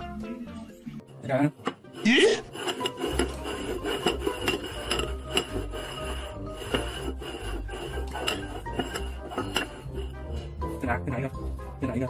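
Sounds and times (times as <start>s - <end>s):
background music with low beat: 0.0s - 12.0s
ceramic bowls scraping on wood: 1.1s - 12.0s.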